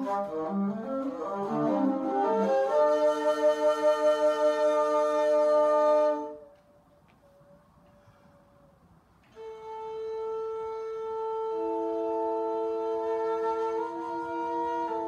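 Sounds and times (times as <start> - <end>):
flute trio playing chords: 0.0 - 15.0.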